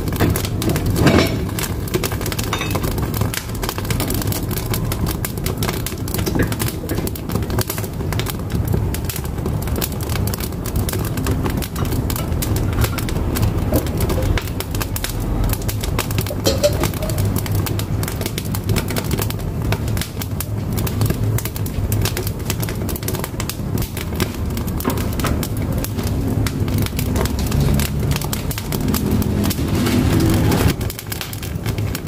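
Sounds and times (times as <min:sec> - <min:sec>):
fire roaring in stove: 0:00.0 - 0:32.0
firewood crackling and popping: 0:00.0 - 0:32.0.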